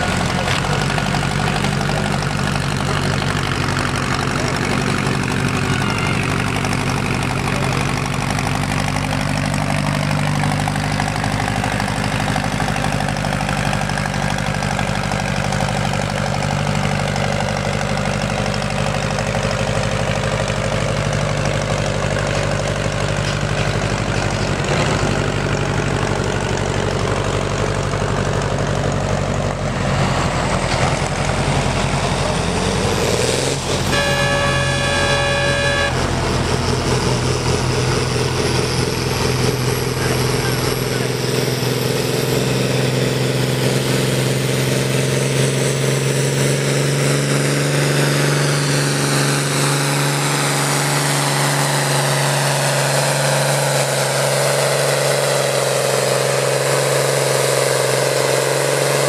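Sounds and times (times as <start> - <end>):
tractor engines idling: 0.0 - 59.0.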